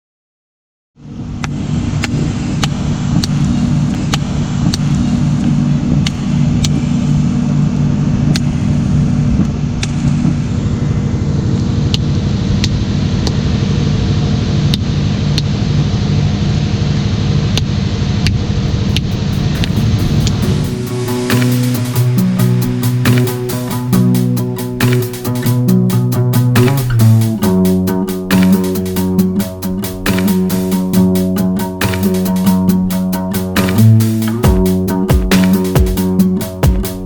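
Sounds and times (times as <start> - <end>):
boat engine running: 1.2 - 37.0.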